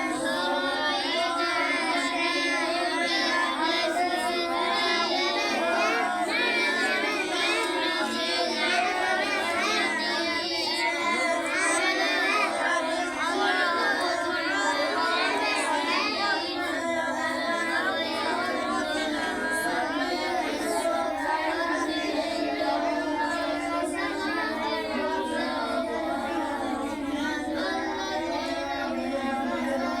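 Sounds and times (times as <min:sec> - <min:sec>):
child-like voice chanting: 0:00.0 - 0:30.0.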